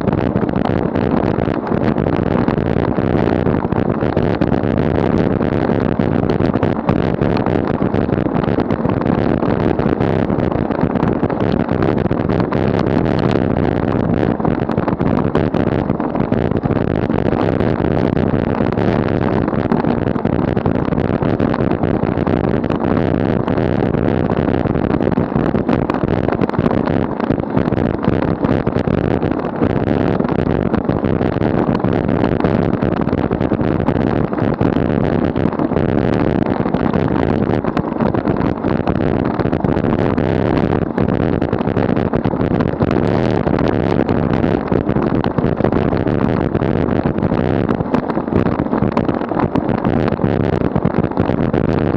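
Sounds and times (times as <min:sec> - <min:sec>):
tyres rumbling on asphalt: 0:00.0 - 0:46.4
wind on microphone: 0:00.0 - 0:51.9.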